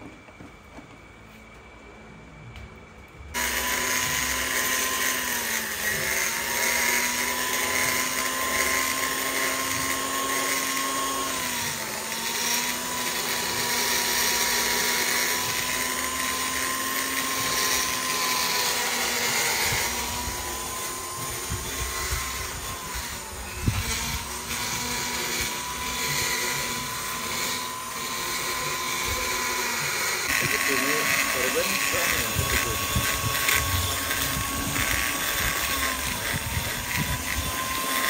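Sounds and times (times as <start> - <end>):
rotary grinder whining: 3.3 - 38.0.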